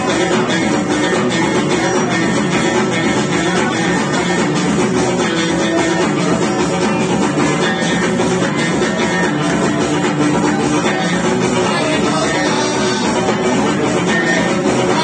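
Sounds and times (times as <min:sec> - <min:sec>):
banjo: 0:00.0 - 0:15.0
electric guitar: 0:00.0 - 0:15.0
frame drums: 0:00.0 - 0:15.0.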